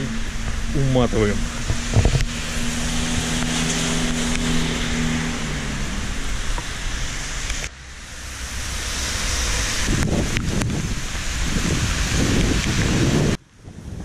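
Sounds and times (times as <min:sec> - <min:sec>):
wind buffeting microphone: 0:00.0 - 0:07.2, 0:08.4 - 0:14.0.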